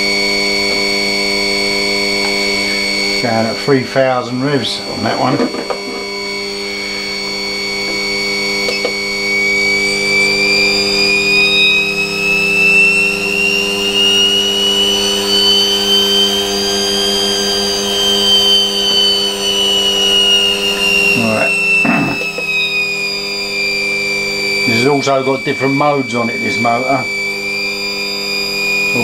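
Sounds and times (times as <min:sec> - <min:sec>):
electric motor humming and whining: 0:00.0 - 0:29.0.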